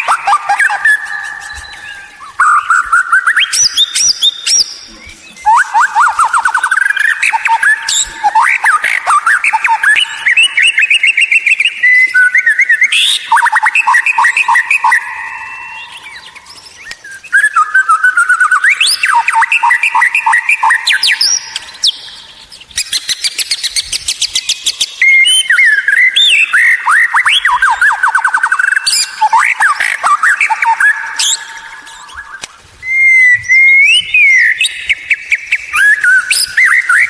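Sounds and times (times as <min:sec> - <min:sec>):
songbird singing trills and whistles: 0:00.0 - 0:37.0.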